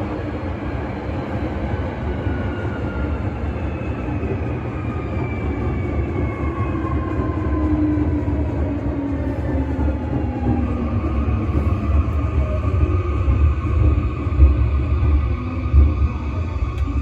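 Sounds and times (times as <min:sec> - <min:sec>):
rumble of running train: 0:00.0 - 0:17.0.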